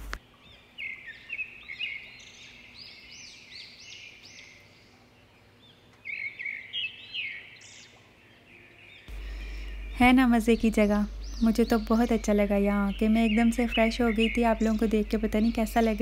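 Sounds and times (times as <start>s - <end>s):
small songbirds twittering: 0.0s - 16.0s.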